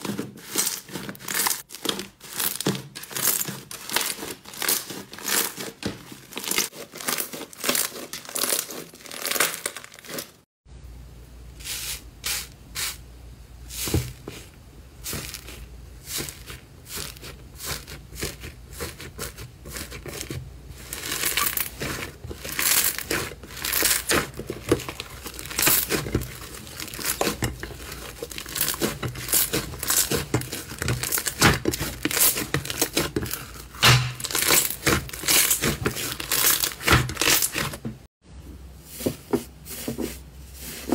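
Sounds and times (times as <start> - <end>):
slime crackling and tearing: 0.4 - 10.4, 15.1 - 37.8.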